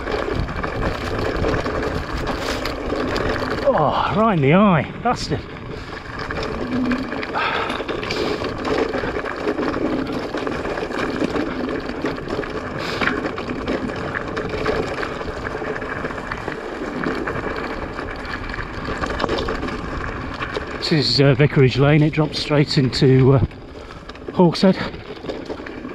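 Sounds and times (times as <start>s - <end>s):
wind buffeting microphone: 0.0s - 24.2s
bike rattling and knocking: 0.0s - 25.9s
bike tyres rolling on rough trail: 0.0s - 25.9s.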